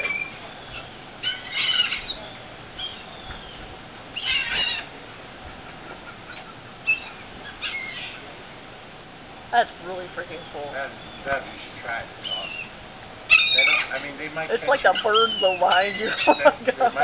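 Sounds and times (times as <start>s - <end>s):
gulls squawking: 0.0s - 8.4s, 10.0s - 17.0s
steady background hiss: 0.0s - 17.0s.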